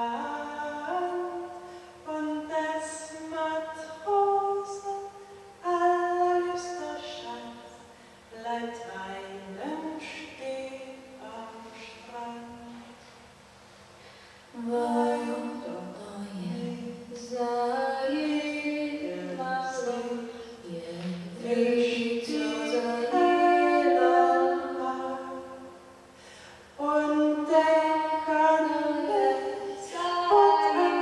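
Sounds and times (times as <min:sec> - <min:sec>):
women singing a cappella: 0:00.0 - 0:13.0, 0:14.5 - 0:26.1, 0:26.8 - 0:31.0.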